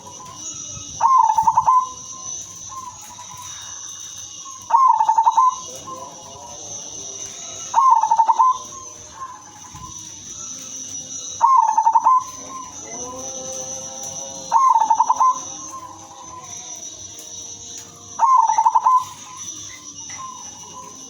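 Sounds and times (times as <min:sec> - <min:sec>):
dove cooing: 0:00.0 - 0:21.0
high-pitched background tone: 0:00.0 - 0:21.0.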